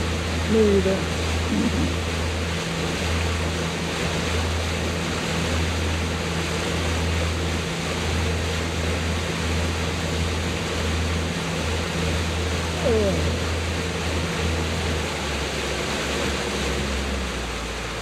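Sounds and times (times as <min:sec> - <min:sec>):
boat motor humming: 0:00.0 - 0:18.0
rushing water: 0:00.0 - 0:18.0.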